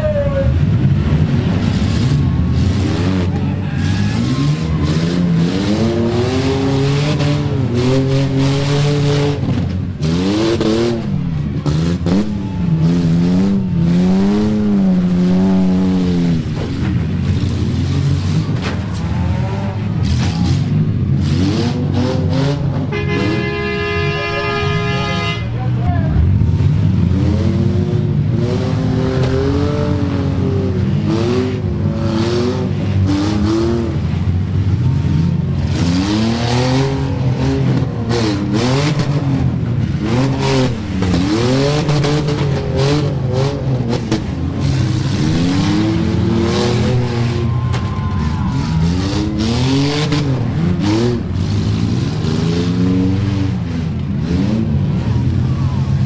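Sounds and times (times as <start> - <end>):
car engines revving: 0.0 - 56.0
cars crashing: 0.0 - 56.0.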